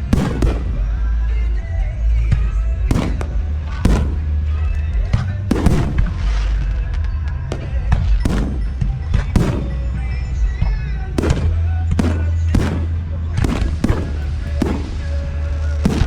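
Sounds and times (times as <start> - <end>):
fireworks bangs: 0.0 - 16.0
music with strong bass: 0.0 - 16.0.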